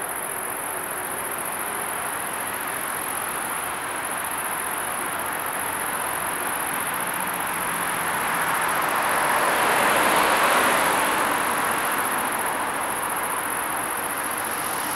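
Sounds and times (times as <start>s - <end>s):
road traffic noise: 0.0s - 14.9s
insects chirring: 0.1s - 14.9s.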